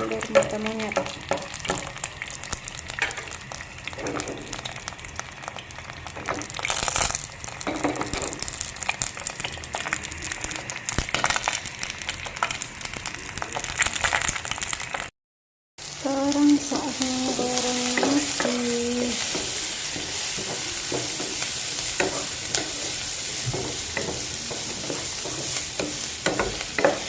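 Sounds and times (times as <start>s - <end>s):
egg sizzling in hot oil: 0.0s - 15.1s, 15.8s - 27.0s.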